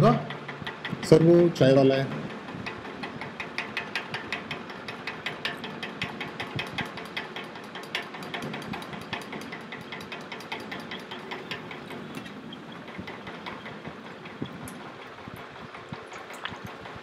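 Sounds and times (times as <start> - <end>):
rapid uneven clicking: 0.0 - 17.0.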